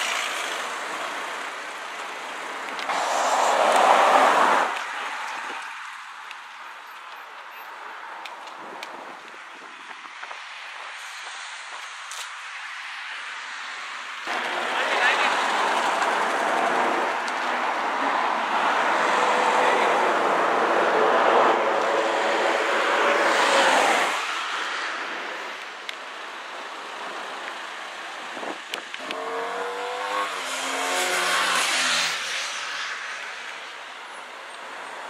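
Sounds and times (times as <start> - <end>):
traffic passing: 0.0 - 35.0.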